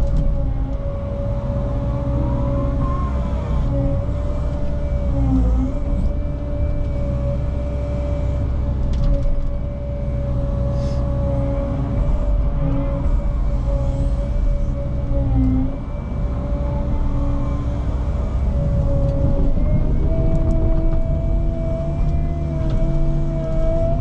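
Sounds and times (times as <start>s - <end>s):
mini excavator engine and hydraulics: 0.0s - 24.0s.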